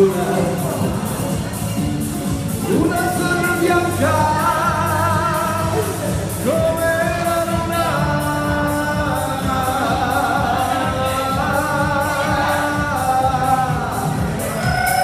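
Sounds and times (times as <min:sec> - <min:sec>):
pop band backing with beat: 0:00.0 - 0:15.0
person singing with vibrato: 0:02.4 - 0:15.0.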